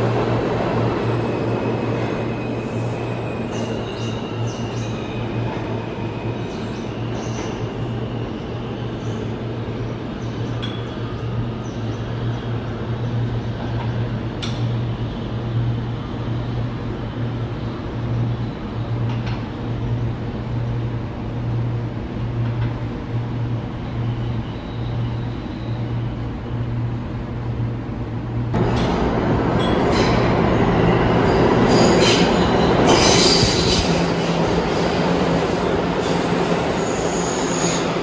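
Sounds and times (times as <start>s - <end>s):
rail noise: 0.0s - 38.0s.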